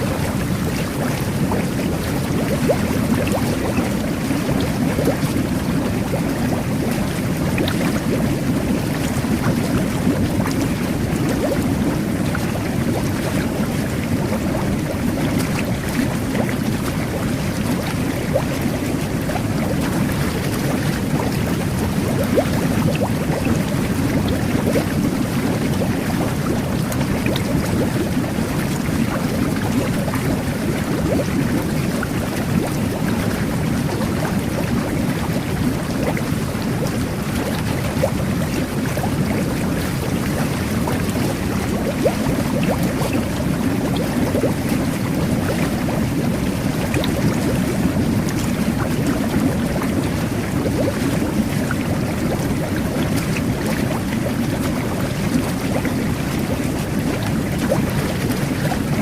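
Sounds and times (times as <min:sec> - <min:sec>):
bath water jets bubbling: 0:00.0 - 0:59.0.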